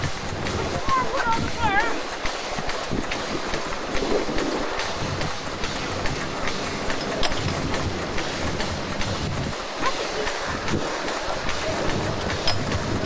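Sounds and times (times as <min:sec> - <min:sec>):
continuous low rumble: 0:00.0 - 0:13.0
steam engine clicking: 0:00.0 - 0:13.0.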